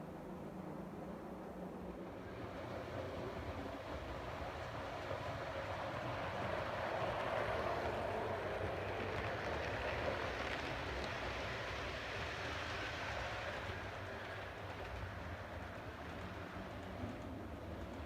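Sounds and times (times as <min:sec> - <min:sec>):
model train motor and wheels: 0:01.2 - 0:18.0.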